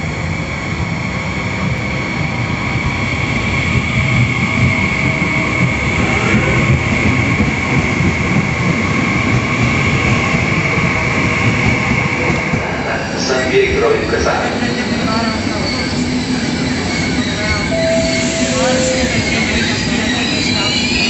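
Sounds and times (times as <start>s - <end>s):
train rolling rumble: 0.0s - 21.0s.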